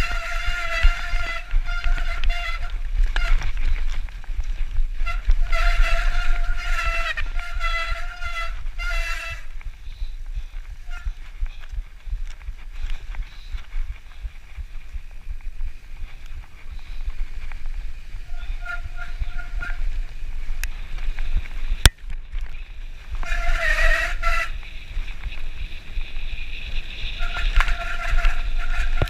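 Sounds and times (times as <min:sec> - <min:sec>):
brakes squealing: 0:00.0 - 0:21.9, 0:22.5 - 0:29.0
bike tyre and frame rattle: 0:00.0 - 0:29.0
wind rumble on microphone: 0:00.0 - 0:29.0.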